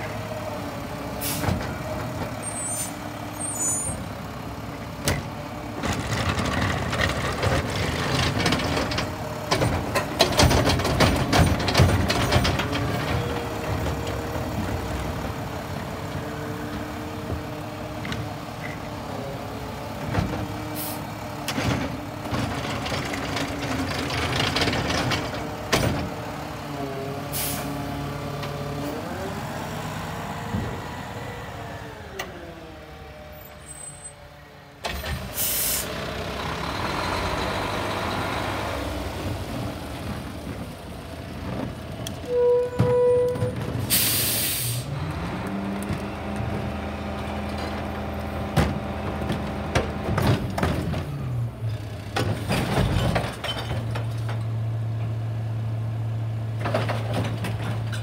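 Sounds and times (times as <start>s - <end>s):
garbage truck diesel engine: 0.0s - 58.0s.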